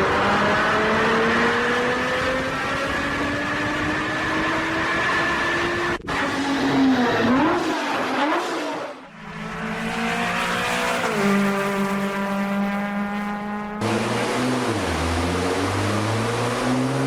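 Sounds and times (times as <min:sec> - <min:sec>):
sports car engine revving: 0:00.0 - 0:06.3, 0:09.3 - 0:17.0.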